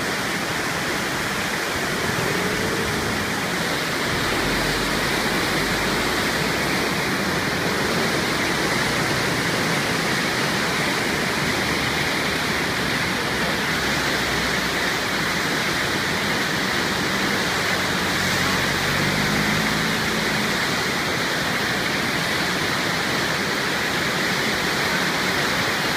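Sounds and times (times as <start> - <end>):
flooded river rushing: 0.0 - 25.9.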